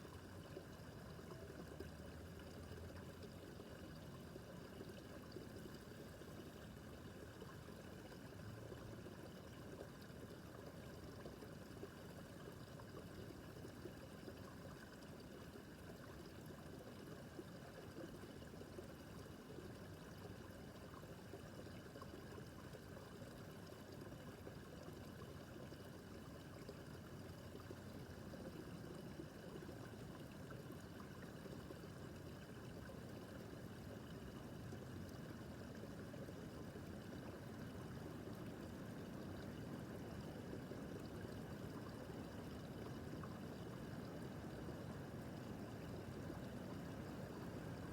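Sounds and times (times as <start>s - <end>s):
water trickling over stones: 0.0s - 47.9s.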